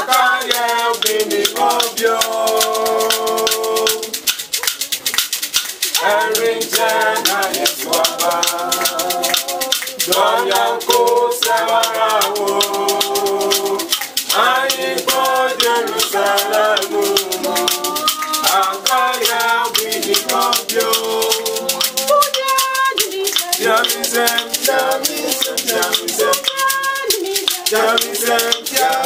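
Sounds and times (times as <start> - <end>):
group of voices singing: 0.0 - 4.8, 5.6 - 29.0
gourd rattle shaken: 0.0 - 29.0.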